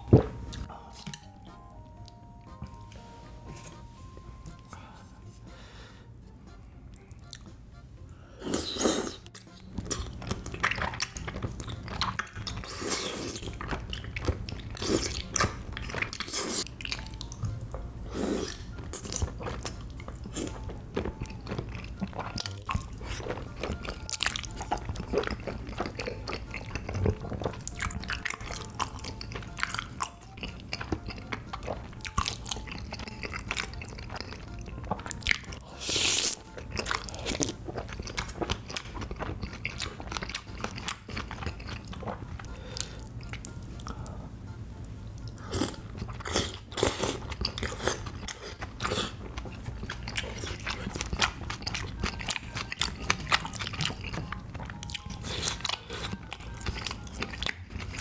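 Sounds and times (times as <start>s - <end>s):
wet chewing and biting: 8.5s - 17.7s, 18.3s - 44.0s, 45.2s - 58.0s.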